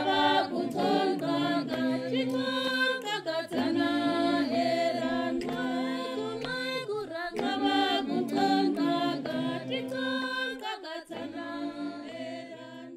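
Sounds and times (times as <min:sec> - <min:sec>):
choir singing in harmony: 0:00.0 - 0:12.9.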